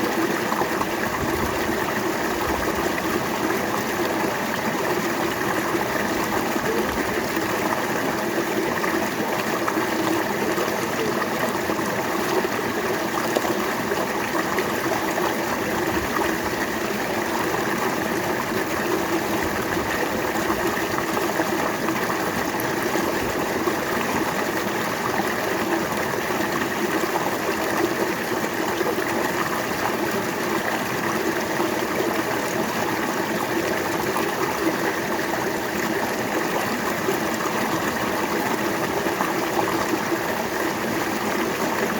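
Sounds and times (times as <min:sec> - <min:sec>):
river water flowing over rocks: 0:00.0 - 0:41.9.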